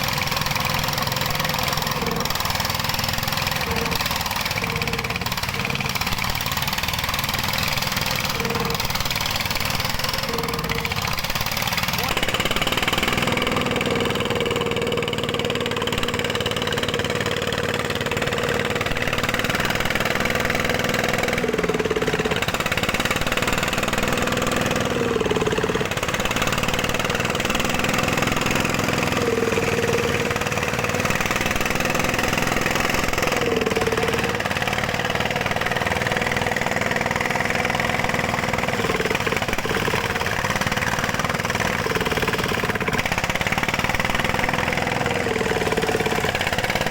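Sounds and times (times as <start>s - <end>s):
single-cylinder diesel engine running: 0.0s - 46.9s.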